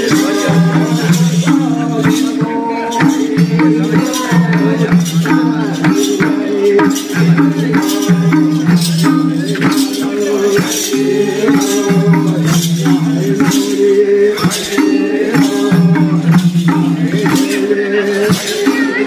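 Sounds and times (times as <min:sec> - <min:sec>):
jingling rattling percussion: 0:00.0 - 0:19.0.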